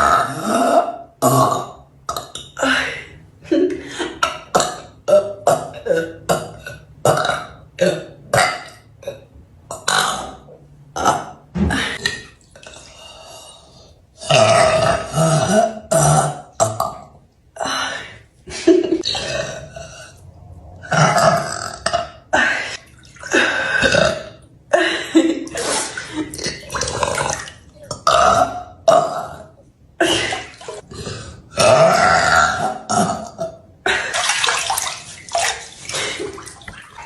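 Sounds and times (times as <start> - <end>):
woman burping: 0.0 - 12.8, 14.2 - 17.8, 18.6 - 20.2, 20.8 - 34.2.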